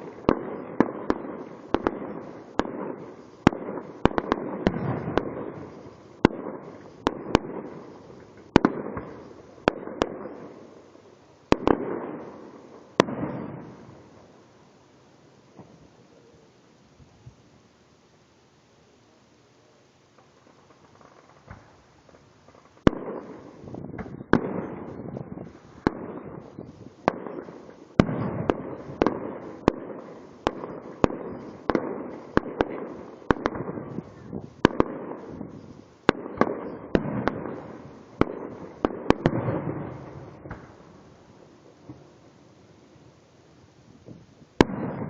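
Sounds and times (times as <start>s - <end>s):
fireworks banging: 0.0s - 14.4s, 20.1s - 42.3s, 43.9s - 45.0s
steady rush of noise: 0.0s - 44.7s.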